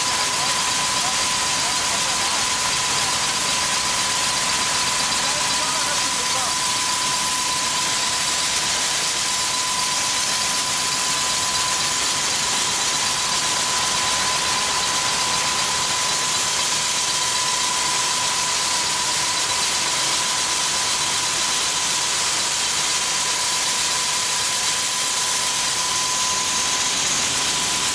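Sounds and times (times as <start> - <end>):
high-pitched whine: 0.0 - 27.9.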